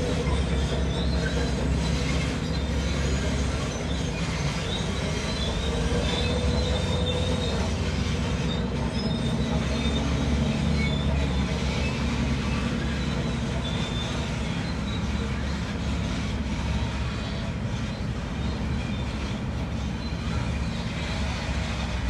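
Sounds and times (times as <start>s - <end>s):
diesel engine rumbling: 0.0s - 22.0s
steel crawler tracks squealing: 0.0s - 22.0s.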